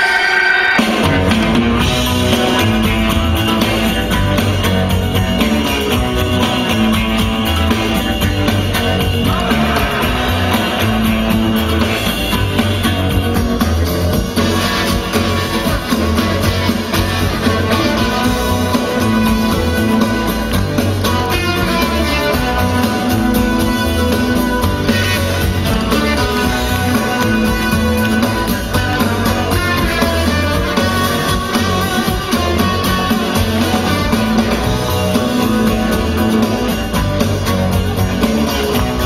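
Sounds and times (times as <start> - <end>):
loud music with heavy bass: 0.0 - 39.0.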